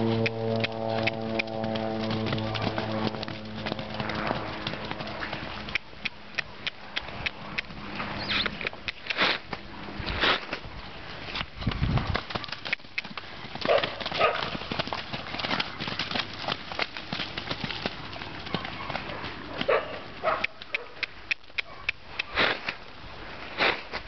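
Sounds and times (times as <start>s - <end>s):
hoofbeats on dirt: 0.0s - 22.9s.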